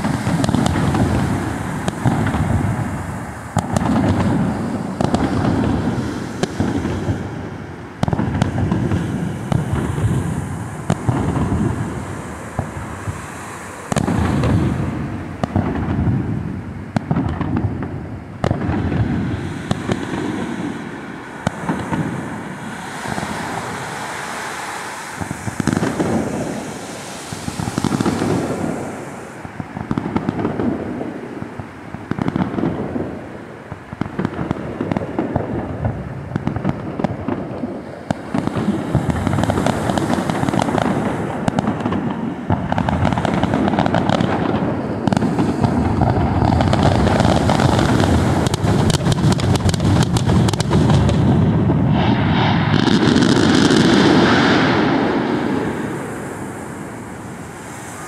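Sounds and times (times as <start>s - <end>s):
fireworks bursting with crackling: 0.0s - 58.0s.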